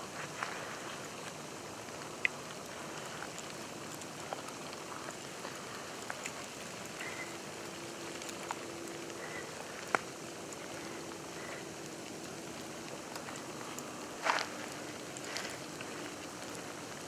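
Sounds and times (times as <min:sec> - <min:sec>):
faint steady hum: 0:00.0 - 0:17.0
snow pattering on leaves: 0:00.0 - 0:17.0.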